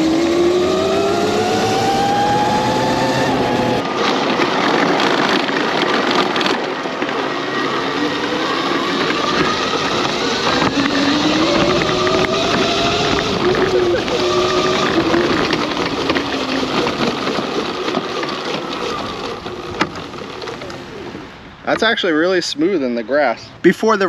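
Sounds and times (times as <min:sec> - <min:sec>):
electric go-kart motor whining: 0:00.0 - 0:21.3
rushing noise from riding: 0:00.0 - 0:24.0.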